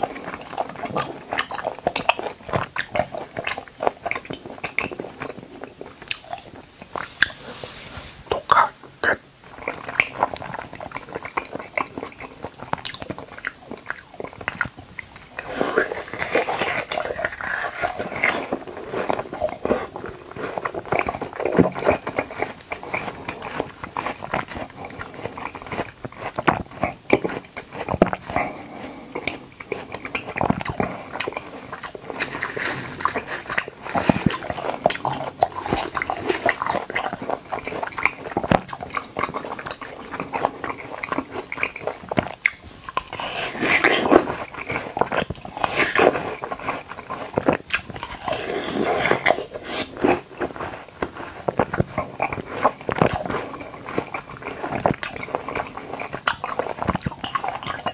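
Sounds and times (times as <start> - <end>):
person biting and chewing: 0.0 - 57.9
mouth clicks and smacks: 8.3 - 57.9.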